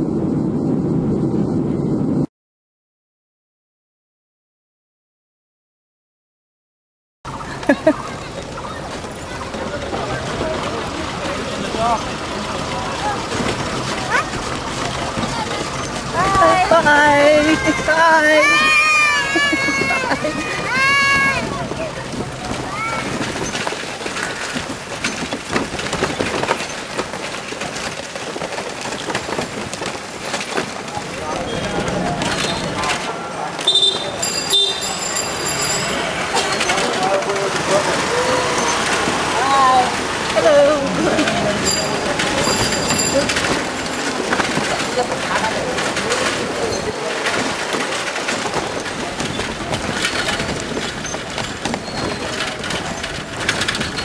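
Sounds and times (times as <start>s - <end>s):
road noise: 0.0s - 2.3s, 7.3s - 54.0s
busy street din: 7.3s - 54.0s
rickshaw rattling and clattering: 7.3s - 54.0s.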